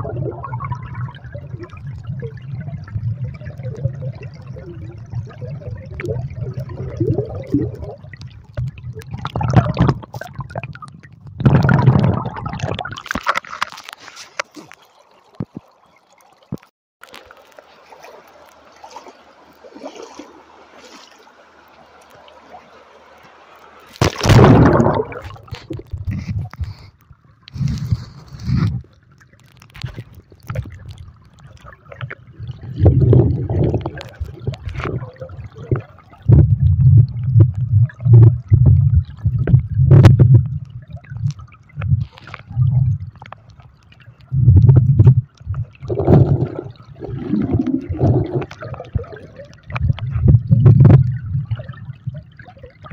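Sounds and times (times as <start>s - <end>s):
underwater river surges: 0.0s - 16.1s, 17.1s - 52.9s.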